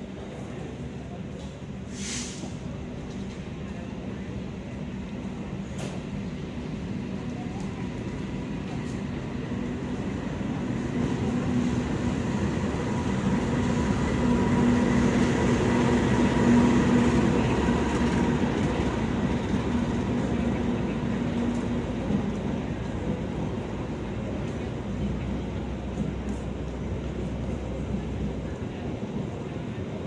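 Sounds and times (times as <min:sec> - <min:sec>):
low locomotive hum: 0:00.0 - 0:30.0
train carriages rumbling on rails: 0:00.0 - 0:30.0.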